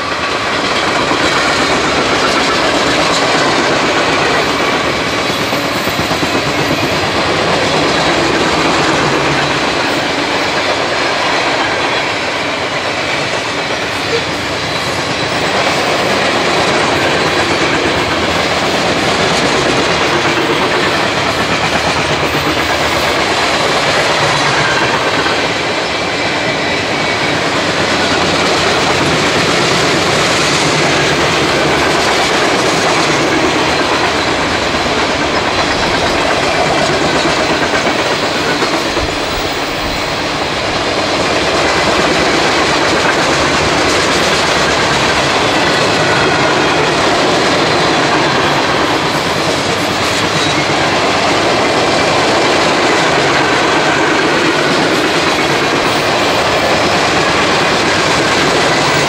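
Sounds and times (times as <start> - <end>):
freight train wheels clacking: 0.0 - 59.0.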